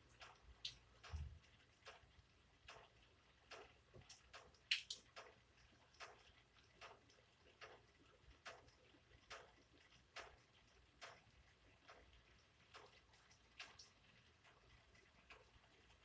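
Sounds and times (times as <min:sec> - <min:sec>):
raindrops ticking: 0:00.0 - 0:16.0.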